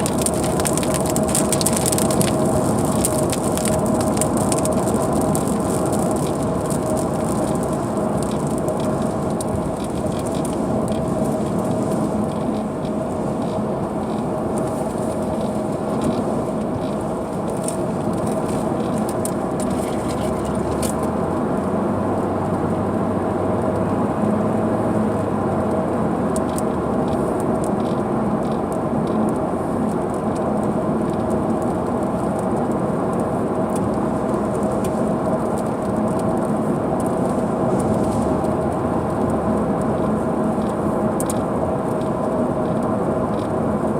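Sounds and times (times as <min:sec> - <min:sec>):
raindrops ticking on glass: 0:00.0 - 0:22.8, 0:24.7 - 0:43.7
road and engine hum: 0:00.0 - 0:43.9.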